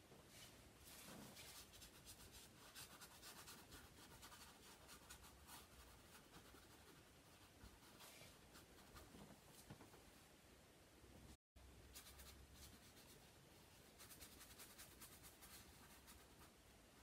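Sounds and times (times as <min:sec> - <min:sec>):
paintbrush stroking canvas: 0:00.3 - 0:09.3, 0:11.9 - 0:16.6.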